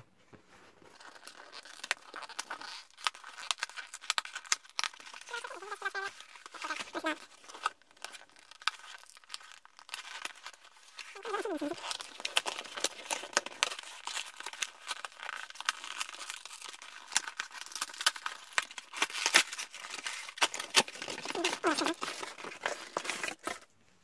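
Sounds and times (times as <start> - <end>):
cardboard crackling and snapping: 0.6 - 23.7
cardboard tearing: 0.8 - 23.7.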